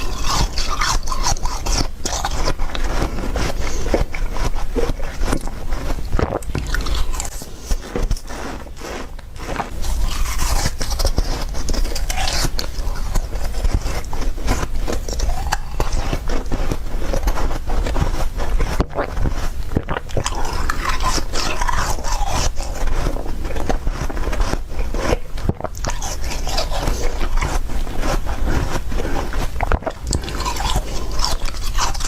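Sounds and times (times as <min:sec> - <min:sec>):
chewing crunchy ice: 0:00.0 - 0:32.0.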